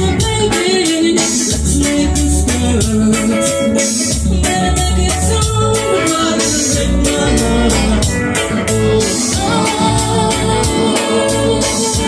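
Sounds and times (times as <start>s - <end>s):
electric bass guitar: 0.0s - 12.0s
electronic keyboard: 0.0s - 12.0s
man singing: 0.0s - 12.0s
steady drum beat: 0.0s - 12.0s.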